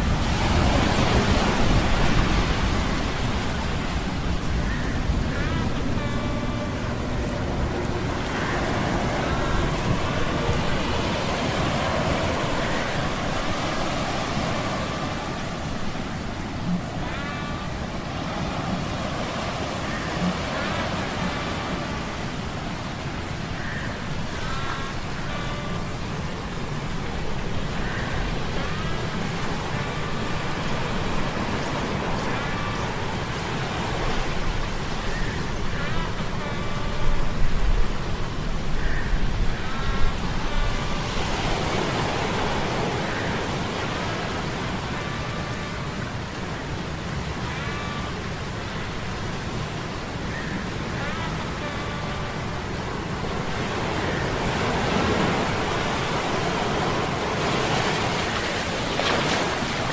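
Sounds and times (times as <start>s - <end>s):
rain and surf noise: 0.0s - 59.9s.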